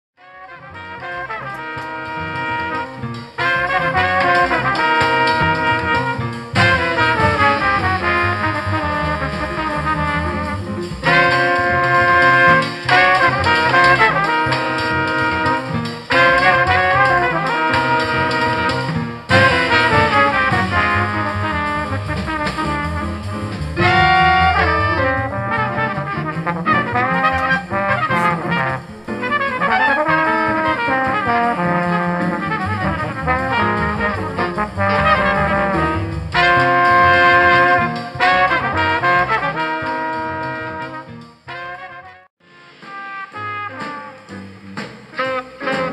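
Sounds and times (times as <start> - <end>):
big band music with brass: 0.2 - 45.9.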